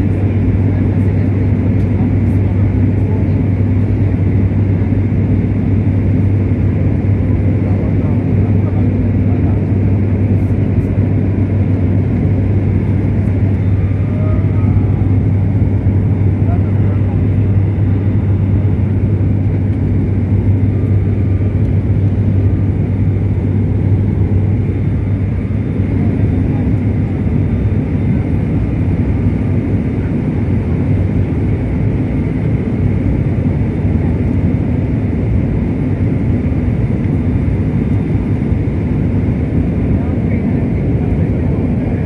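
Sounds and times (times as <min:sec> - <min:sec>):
turboprop cabin drone: 0:00.0 - 0:42.0.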